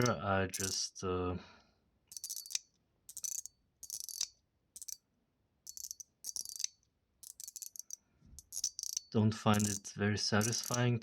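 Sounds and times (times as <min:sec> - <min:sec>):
metal fidget slider clicking: 0:00.0 - 0:00.8, 0:02.1 - 0:05.0, 0:05.7 - 0:10.9.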